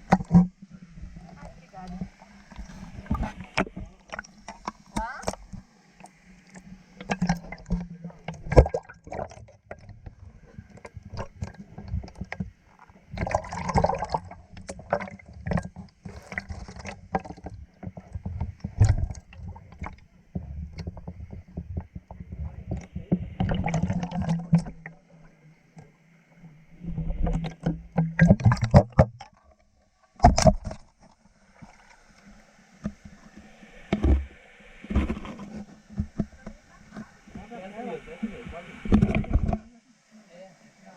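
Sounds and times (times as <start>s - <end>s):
water splashing and sloshing: 0.0s - 40.9s.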